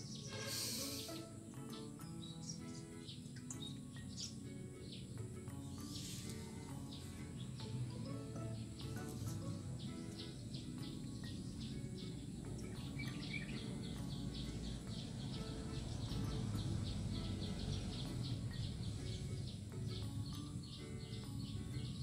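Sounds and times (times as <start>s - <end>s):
rapid high chirps: 0.0s - 22.0s.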